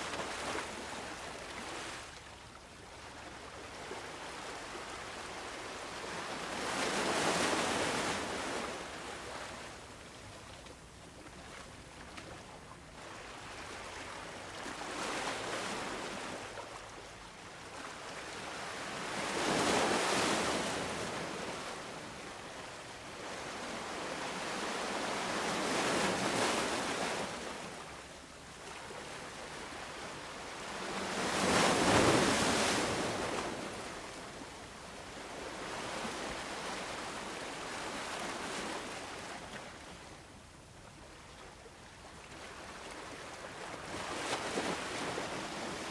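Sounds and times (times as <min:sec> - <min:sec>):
small waves breaking on shore: 0:00.0 - 0:45.9.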